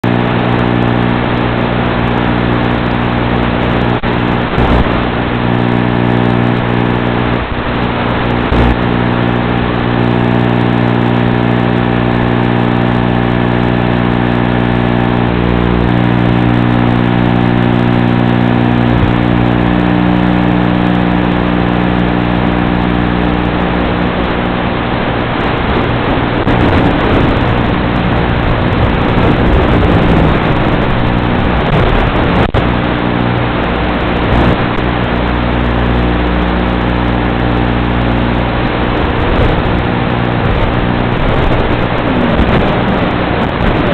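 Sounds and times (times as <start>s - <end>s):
electrical interference buzz: 0.0s - 43.9s.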